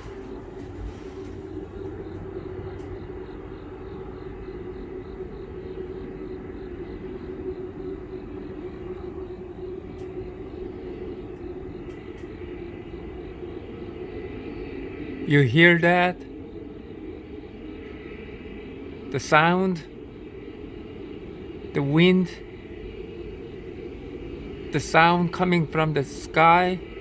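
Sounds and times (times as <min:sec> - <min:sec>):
faint high steady tone: 0:00.0 - 0:27.0
low droning hum: 0:00.0 - 0:27.0.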